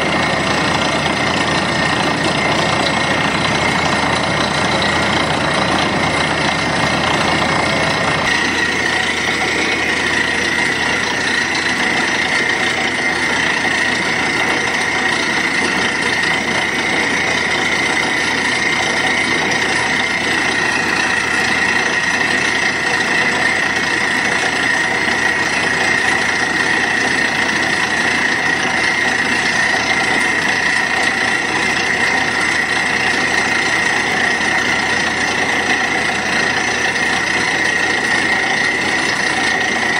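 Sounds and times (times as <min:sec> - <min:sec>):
drilling rig machine noise: 0:00.0 - 0:39.9.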